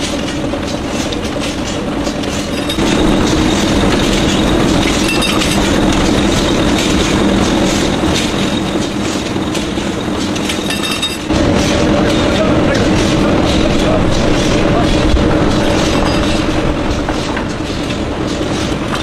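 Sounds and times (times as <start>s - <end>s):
machine hum: 0.0s - 19.0s
machine rapid mechanical clatter: 0.0s - 19.0s.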